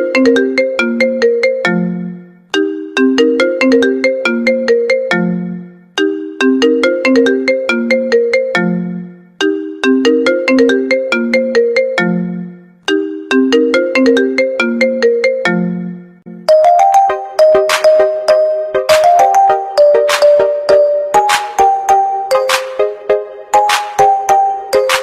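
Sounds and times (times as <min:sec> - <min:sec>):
different ringtone tune: 0:00.0 - 0:25.0
phone ringtone melody: 0:00.0 - 0:25.0.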